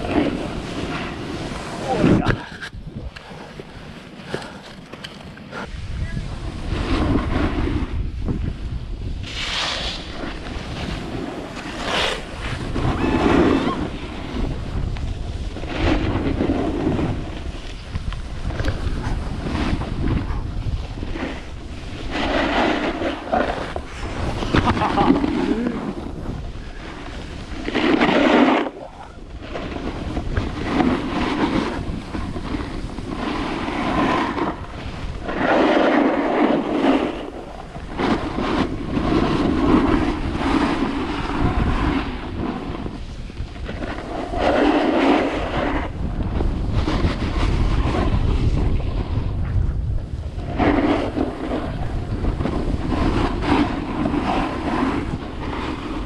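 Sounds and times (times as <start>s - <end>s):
snow scraping hiss: 0.0s - 56.0s
wind buffeting microphone: 0.0s - 56.0s.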